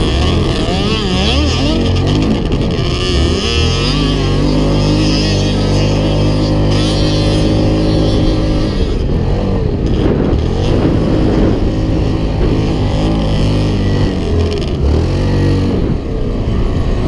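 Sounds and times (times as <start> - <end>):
quad bike engine revving: 0.0 - 17.0.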